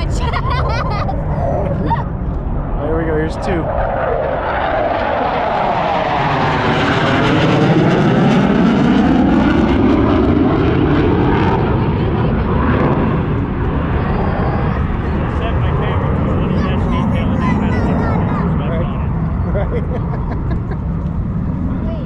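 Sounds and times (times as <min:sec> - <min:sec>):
fighter jets roaring overhead: 0:00.0 - 0:22.0.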